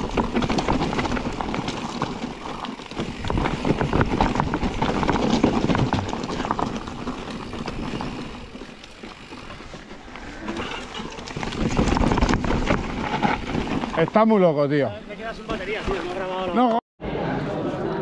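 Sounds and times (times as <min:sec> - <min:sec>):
mountain bike rattling over rocks: 0:00.0 - 0:16.8.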